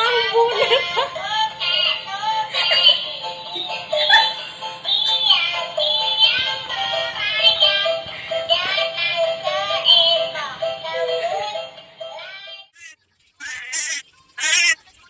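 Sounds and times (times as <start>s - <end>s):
toy electronic melody: 2.4s - 14.8s.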